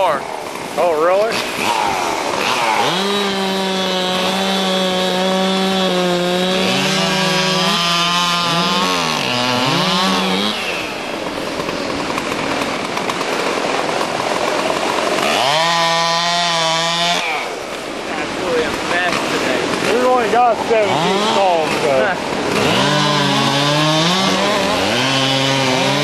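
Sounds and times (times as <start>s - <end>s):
chainsaw running at high revs: 0.0s - 26.0s.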